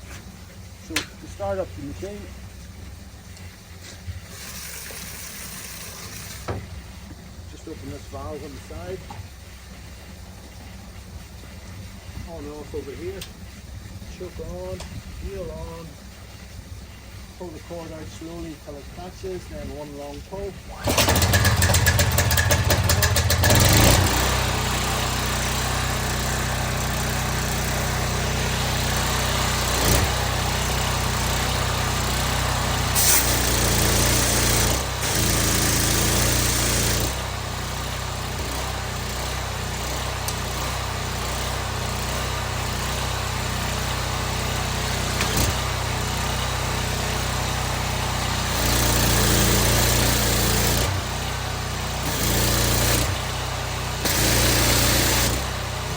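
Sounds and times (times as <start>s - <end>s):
pressure washer engine running: 0.0s - 55.9s.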